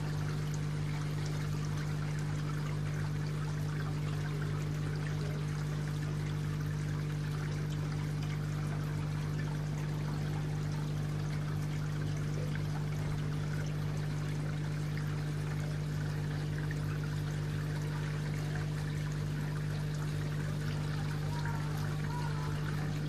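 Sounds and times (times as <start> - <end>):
steady low hum: 0.0 - 23.0
water splashing into pond: 0.0 - 23.0.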